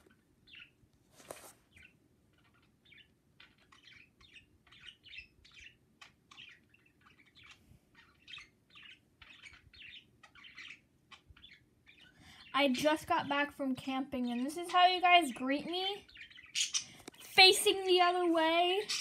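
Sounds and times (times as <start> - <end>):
budgerigars chirping softly: 0.0 - 0.8, 1.7 - 12.8, 14.3 - 17.3, 18.8 - 19.0.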